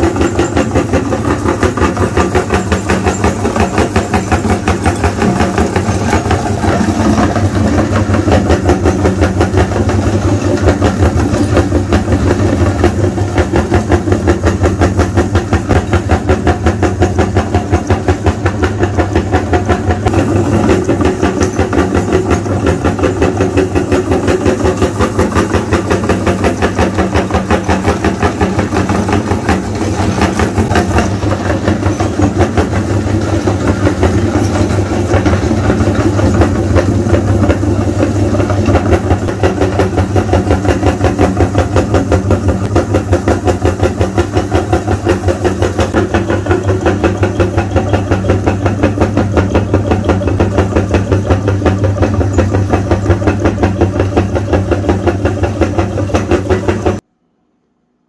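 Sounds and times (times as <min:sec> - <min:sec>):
electric meat grinder crushing chalk: 0:00.0 - 0:57.1.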